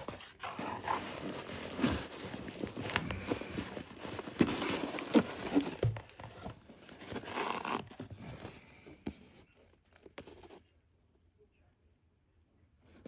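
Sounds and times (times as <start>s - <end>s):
cardboard flaps rustling: 0.0s - 10.6s.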